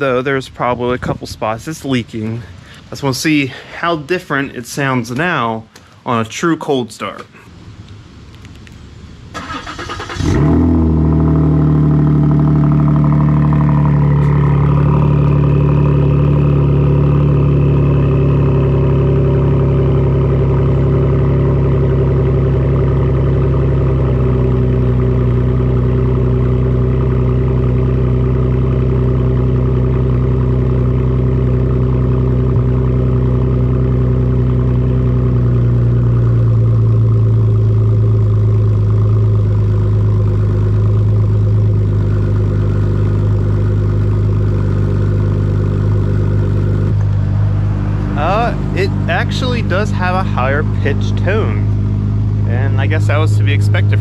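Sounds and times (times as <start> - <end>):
car engine idling: 7.8 - 54.0.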